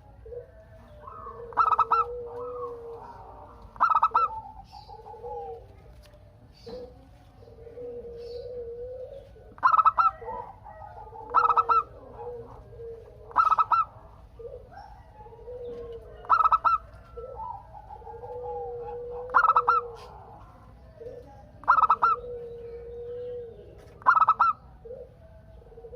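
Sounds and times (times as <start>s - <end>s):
doves soft drawn-out cooing: 0.0s - 25.9s
doves staccato cooing: 0.0s - 25.9s.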